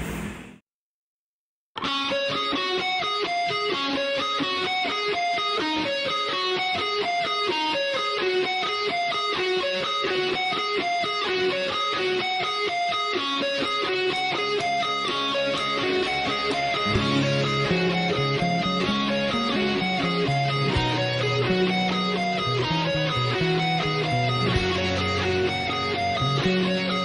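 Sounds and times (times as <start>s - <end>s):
guitar playing plucked notes: 1.8s - 27.0s.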